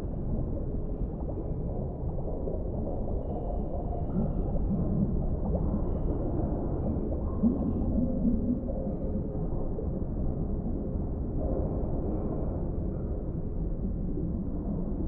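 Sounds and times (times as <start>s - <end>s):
deep underwater low rumble: 0.0s - 15.0s.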